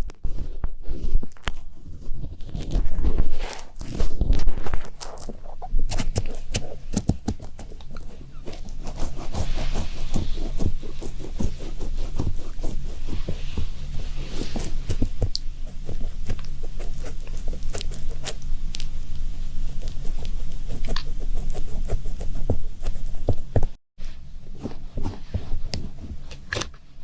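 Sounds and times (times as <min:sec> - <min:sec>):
tapping and scratching: 0:01.2 - 0:23.8
steady low hum: 0:04.2 - 0:27.0.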